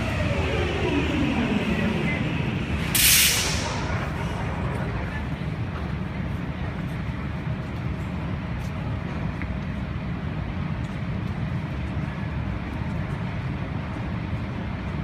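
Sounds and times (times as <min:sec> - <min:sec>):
train idling with low rumble: 0:00.0 - 0:15.0.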